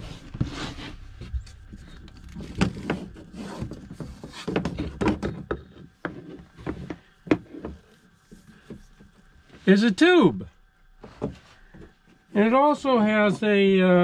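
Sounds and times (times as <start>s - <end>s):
knocks and clunks of items moved: 0.0s - 9.8s, 11.0s - 13.6s.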